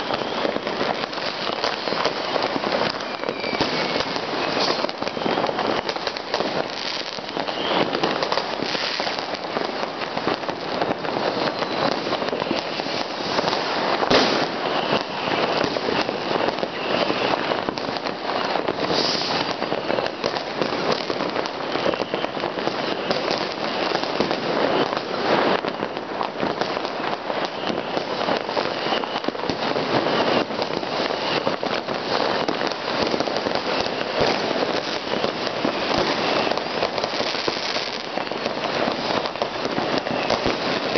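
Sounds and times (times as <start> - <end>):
fireworks crackling and popping: 0.0 - 40.9
loud firework bangs: 0.0 - 40.9.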